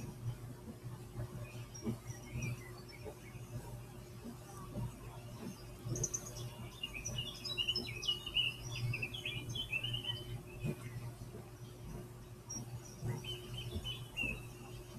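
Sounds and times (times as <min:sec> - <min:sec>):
recorded birdsong chirps and trills: 0:00.0 - 0:14.9
steady low hum: 0:00.0 - 0:14.9.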